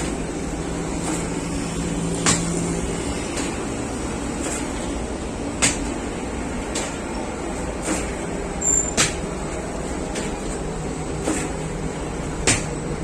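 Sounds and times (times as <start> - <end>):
bakery machinery hum: 0.0 - 13.0
sharp knocks and clatters: 0.0 - 13.0.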